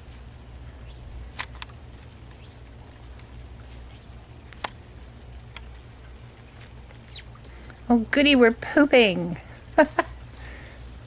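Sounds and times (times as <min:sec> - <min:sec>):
light rain patter: 0:00.0 - 0:11.0
low steady rumble: 0:00.0 - 0:11.0.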